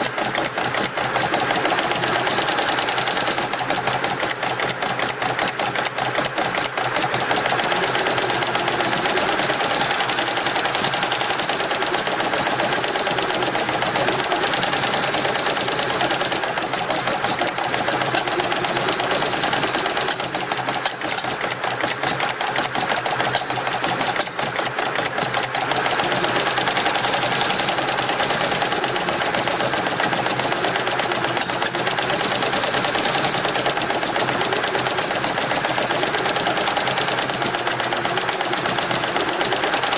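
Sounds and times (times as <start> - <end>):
embroidery machine clattering: 0.0 - 39.9.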